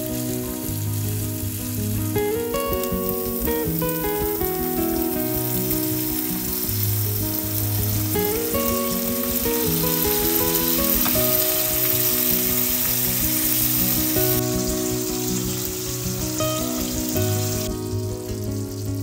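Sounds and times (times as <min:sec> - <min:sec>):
broth being poured: 0:00.0 - 0:19.0
sauce sizzling in frying pan: 0:00.0 - 0:19.0
soft background music: 0:00.0 - 0:19.0.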